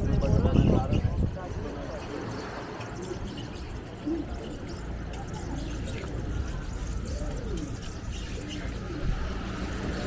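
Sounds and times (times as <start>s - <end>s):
faint distant voices: 0.0s - 10.0s.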